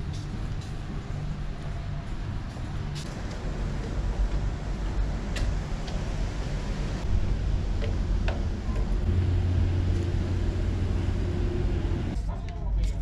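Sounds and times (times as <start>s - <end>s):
low ferry rumble: 0.0s - 13.0s.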